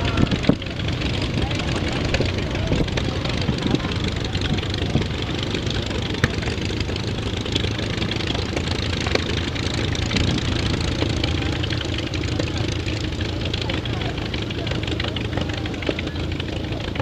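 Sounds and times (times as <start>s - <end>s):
propeller airplane engine idling: 0.0s - 17.0s.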